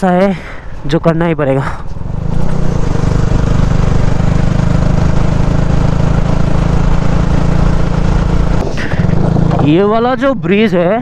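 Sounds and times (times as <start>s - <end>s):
motorcycle engine cruising: 0.6s - 11.0s.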